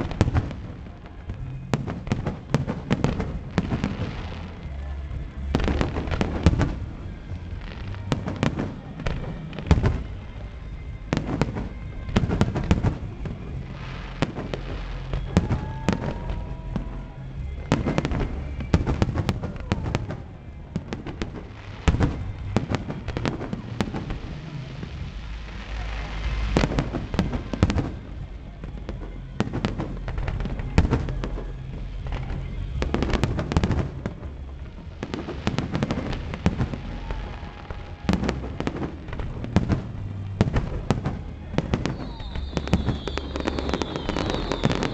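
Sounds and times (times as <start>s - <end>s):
continuous low rumble: 0.0s - 44.9s
fireworks cracks and bangs: 0.0s - 44.9s.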